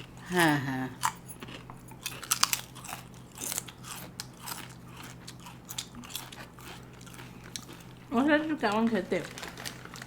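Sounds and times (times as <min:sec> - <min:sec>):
chewing potato chips: 0:00.0 - 0:10.0.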